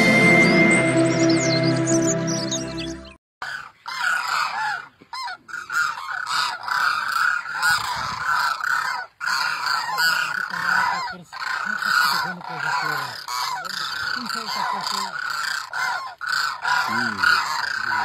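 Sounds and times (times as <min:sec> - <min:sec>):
flock of cranes calling: 0:03.4 - 0:18.0.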